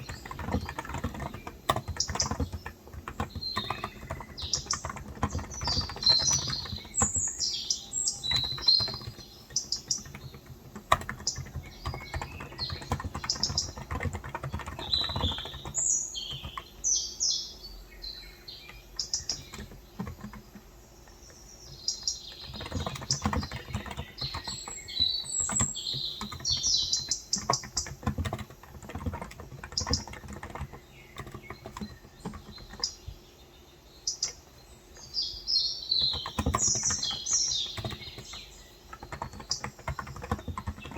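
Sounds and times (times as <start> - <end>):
keyboard typing: 0.0 - 17.0, 18.3 - 33.3, 34.1 - 40.9
small birds chirping: 0.0 - 40.9.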